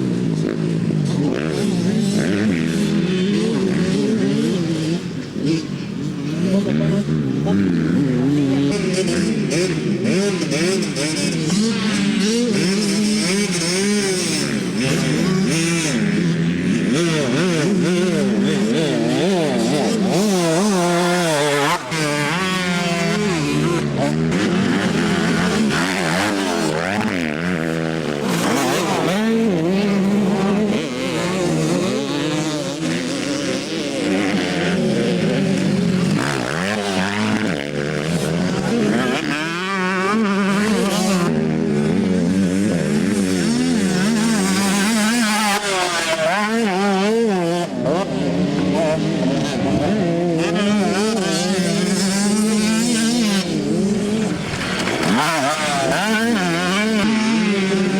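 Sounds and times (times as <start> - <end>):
motocross bikes revving: 0.0 - 57.9.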